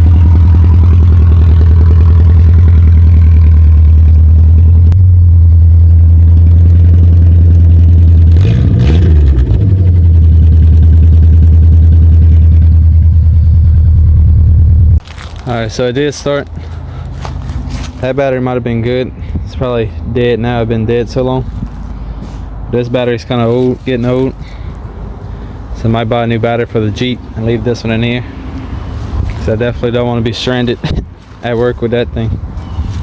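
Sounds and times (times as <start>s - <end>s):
loud engine idling and revving: 0.0s - 19.4s, 20.2s - 32.0s.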